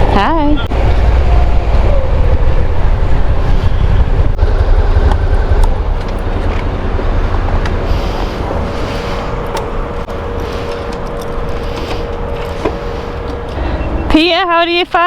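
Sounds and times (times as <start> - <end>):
rushing air: 0.0 - 14.1
motorcycle engine rumble: 0.0 - 14.4.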